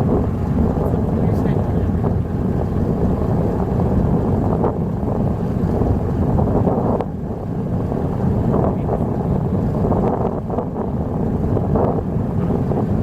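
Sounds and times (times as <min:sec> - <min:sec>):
boat engine rumbling: 0:00.0 - 0:13.0
wind on microphone: 0:00.0 - 0:13.0.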